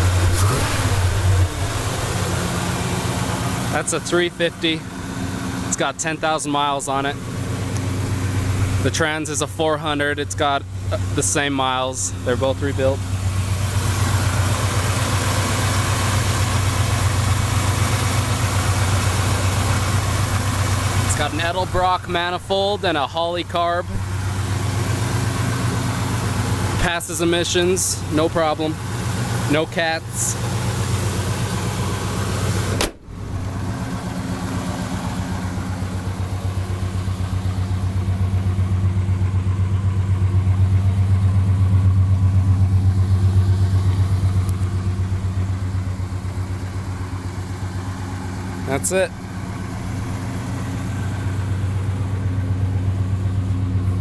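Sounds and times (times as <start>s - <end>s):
vee eight engine idling: 0.0s - 54.0s.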